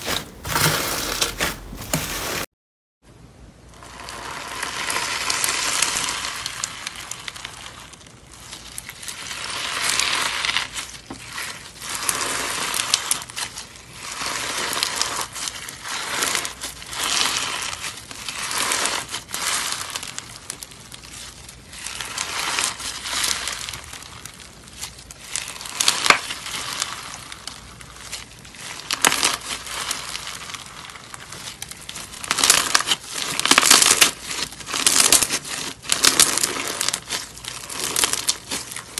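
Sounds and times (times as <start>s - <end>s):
bead slime crackling: 4.1s - 38.9s.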